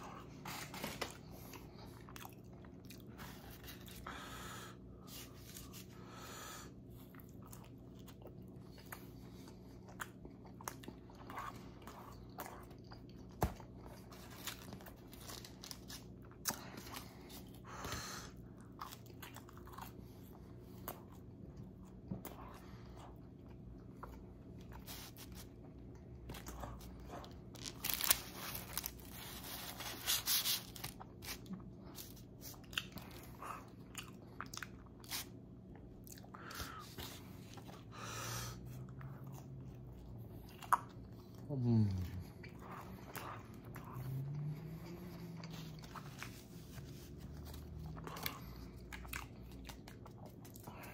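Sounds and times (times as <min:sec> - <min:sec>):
person chewing pizza crust: 0:00.0 - 0:50.9.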